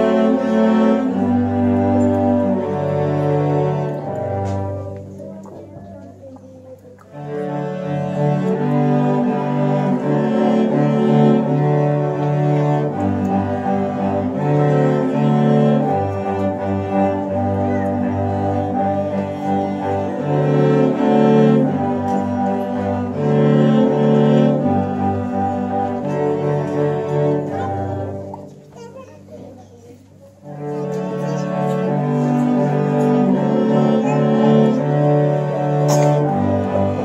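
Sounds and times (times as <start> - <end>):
cello ensemble playing: 0.0 - 37.0.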